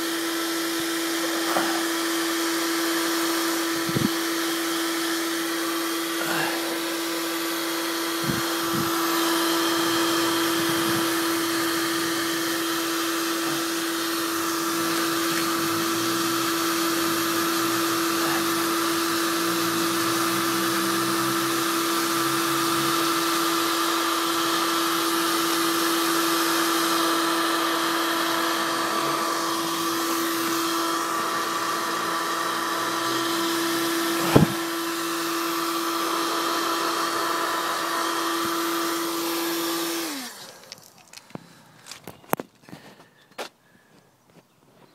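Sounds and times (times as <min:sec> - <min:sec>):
heat gun running: 0:00.0 - 0:41.3.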